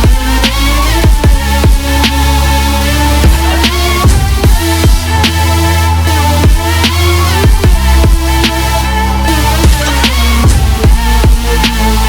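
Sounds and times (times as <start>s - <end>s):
bass-boosted electro house music: 0.0s - 12.0s.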